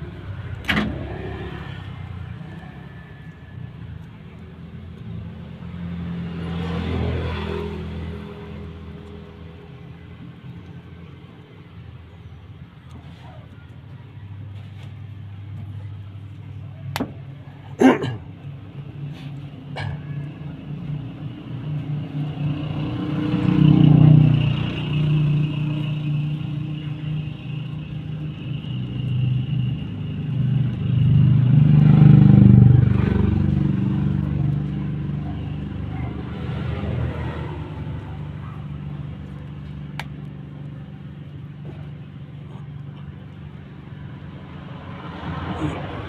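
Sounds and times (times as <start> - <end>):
engine revving and idling: 0.0 - 12.1, 18.5 - 46.0.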